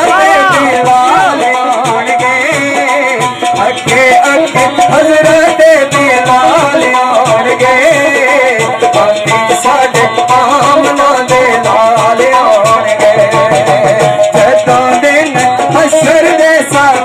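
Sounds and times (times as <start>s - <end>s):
hand drum beat: 0.0s - 17.0s
man singing into a microphone: 0.0s - 17.0s.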